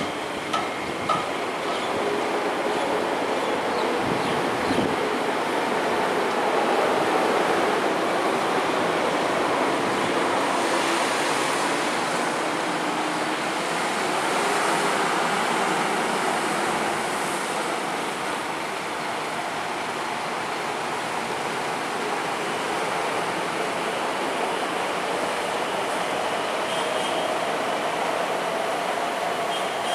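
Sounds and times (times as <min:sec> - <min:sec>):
train wheels rushing on rail: 0:00.0 - 0:29.9.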